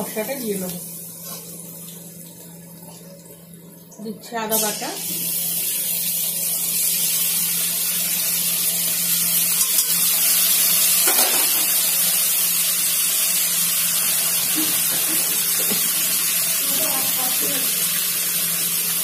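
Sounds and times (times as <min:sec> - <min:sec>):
food sizzling in hot oil: 0:00.0 - 0:02.2, 0:04.2 - 0:19.0.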